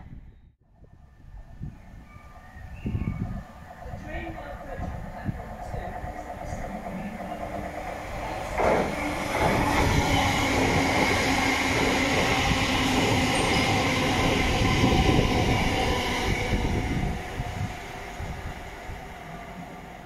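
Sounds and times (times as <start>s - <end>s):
train rumbling past: 1.2s - 20.0s
train whine: 1.2s - 20.0s.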